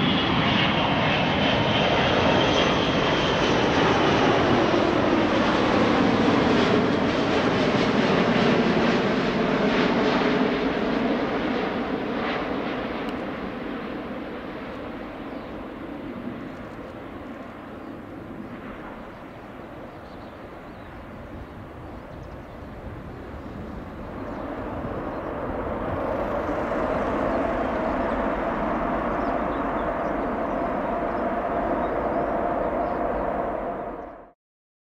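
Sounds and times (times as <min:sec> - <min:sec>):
distant jet engine roar: 0:00.0 - 0:34.4.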